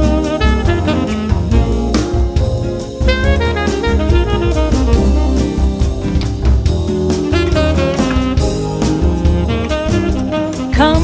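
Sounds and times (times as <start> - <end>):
bass line: 0.0 - 11.0
drum kit beat: 0.0 - 11.0
wavering lead melody: 0.0 - 11.0.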